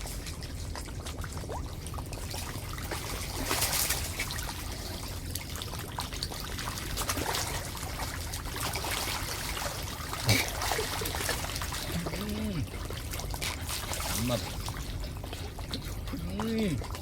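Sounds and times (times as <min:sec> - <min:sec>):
water trickling and pouring: 0:00.0 - 0:17.0.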